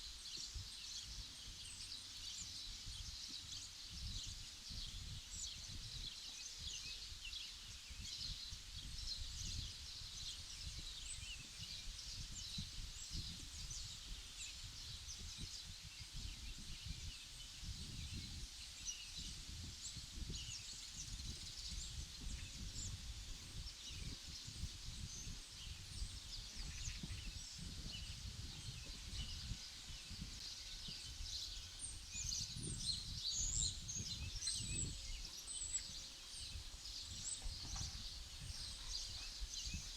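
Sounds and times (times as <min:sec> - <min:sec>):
low rumble of wind: 0:00.0 - 0:39.9
small birds chirping: 0:00.0 - 0:39.9.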